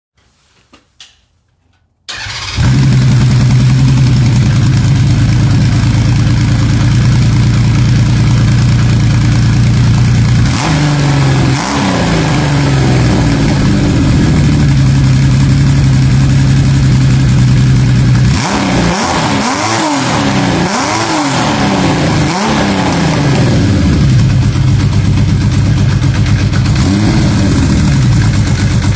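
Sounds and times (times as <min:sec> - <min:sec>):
engine throttle revving: 0:02.1 - 0:28.9
motorcycle engine starting and idling: 0:02.1 - 0:28.9.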